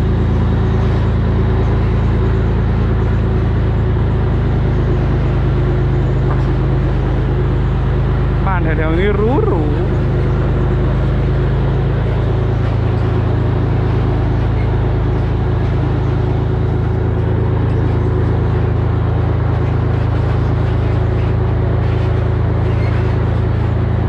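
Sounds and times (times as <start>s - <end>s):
truck diesel engine droning: 0.0s - 24.0s.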